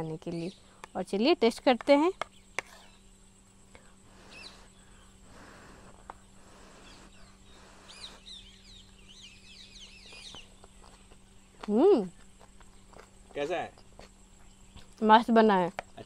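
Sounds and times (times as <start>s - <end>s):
small birds chirping: 0.0s - 16.0s
soft outdoor ambience: 0.0s - 16.0s.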